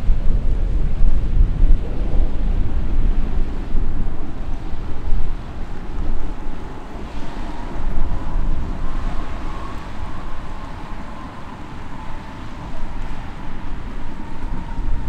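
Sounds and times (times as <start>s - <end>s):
faint jet engine whine: 0.0s - 15.0s
wind buffeting microphone: 0.0s - 15.0s.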